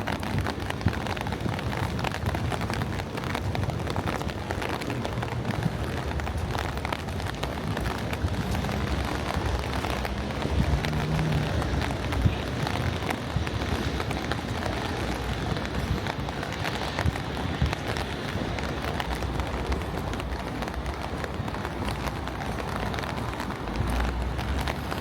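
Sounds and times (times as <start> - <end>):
rain drops ticking on surfaces: 0.0 - 25.0.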